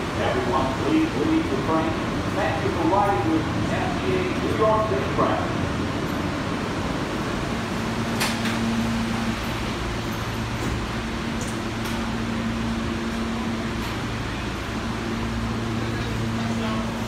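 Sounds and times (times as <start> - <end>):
subway car equipment hum: 0.0 - 17.0.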